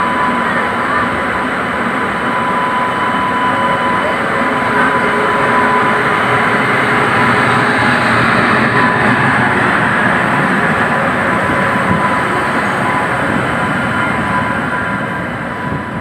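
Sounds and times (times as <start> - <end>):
faint steady whine: 0.0 - 16.0
train wheels rumbling on rail: 0.0 - 16.0.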